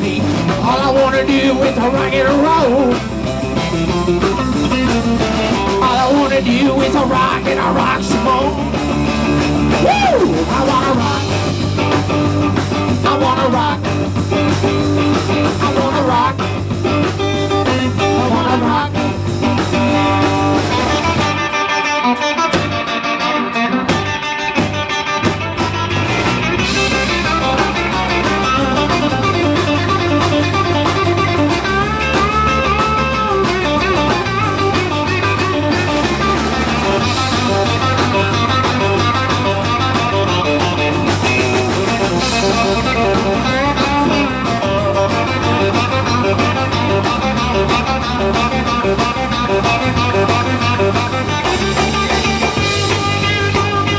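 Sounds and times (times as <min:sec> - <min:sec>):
electric guitar bending notes: 0:00.0 - 0:53.9
live rock band playing: 0:00.0 - 0:53.9.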